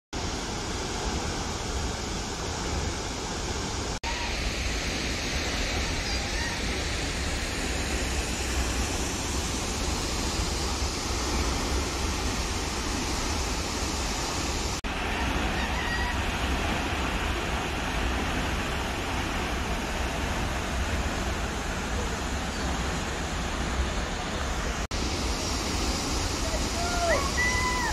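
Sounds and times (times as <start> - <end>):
wind: 0.1 - 27.9
distant waterfall rushing: 0.2 - 27.9.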